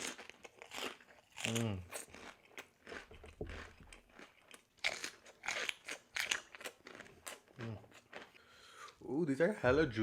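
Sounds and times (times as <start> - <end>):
person chewing crunchy snack: 0.0 - 9.0.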